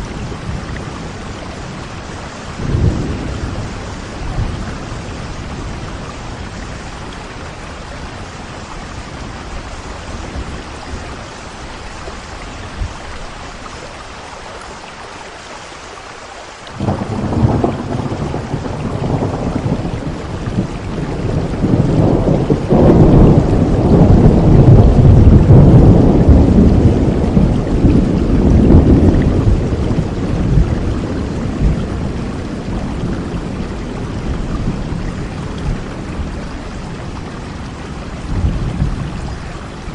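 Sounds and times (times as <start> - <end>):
thunderclap and rumble: 0.0 - 13.3, 16.8 - 39.9
steady rain falling: 0.0 - 39.9.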